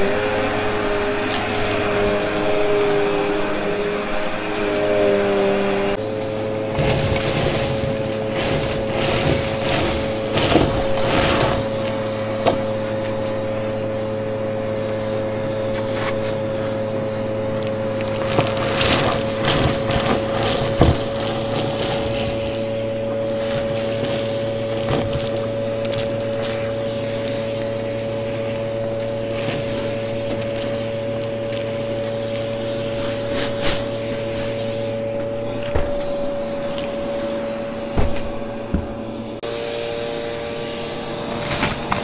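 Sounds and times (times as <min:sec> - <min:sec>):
debris crackling in vacuum: 0:00.0 - 0:39.5, 0:40.8 - 0:42.0
vacuum cleaner motor hum: 0:00.0 - 0:42.0.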